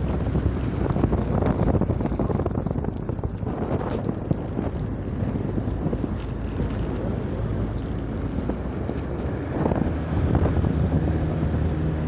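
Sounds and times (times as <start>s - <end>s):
low rumbling noise: 0.0s - 12.0s
wind buffeting microphone: 0.0s - 12.0s.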